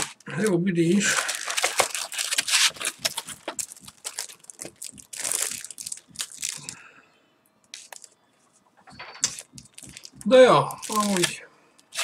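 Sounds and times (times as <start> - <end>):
plastic wrapping crinkling: 0.0 - 6.8, 7.7 - 8.2, 9.2 - 12.0.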